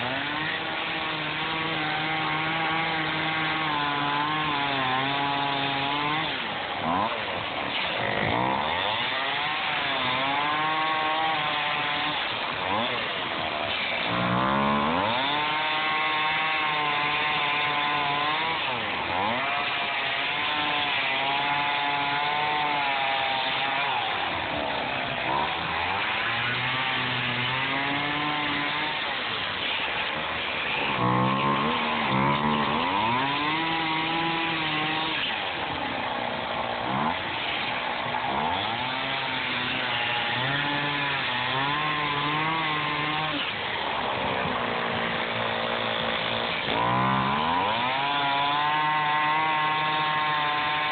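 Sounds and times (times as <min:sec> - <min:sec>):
chainsaw cutting foam: 0:00.0 - 0:50.9.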